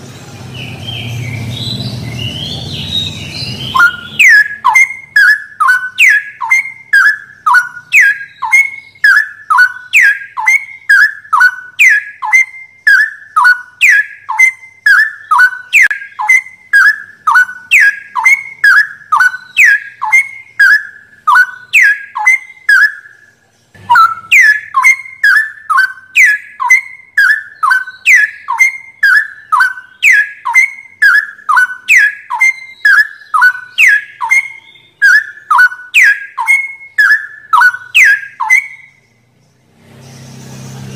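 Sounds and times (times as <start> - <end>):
bird whistling song: 0.0 - 39.4.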